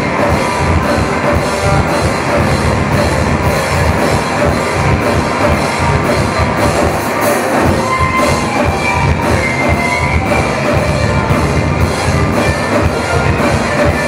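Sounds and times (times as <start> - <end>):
drum kit beat: 0.0 - 14.0
live rock band playing: 0.0 - 14.0.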